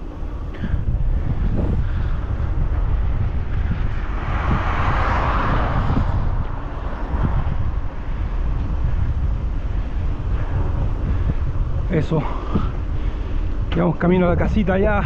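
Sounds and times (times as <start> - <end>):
passing vehicle: 0.0 - 15.0
wind rumbling on microphone: 0.0 - 15.0.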